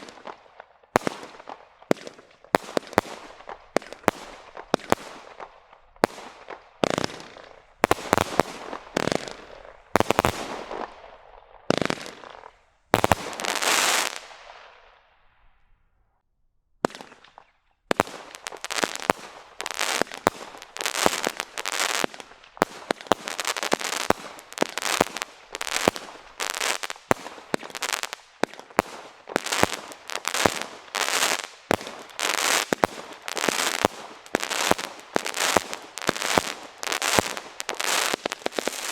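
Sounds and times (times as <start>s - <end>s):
firework crackling bursts: 0.0s - 14.9s, 17.9s - 38.9s
firework shots: 1.0s - 15.0s, 16.9s - 38.9s.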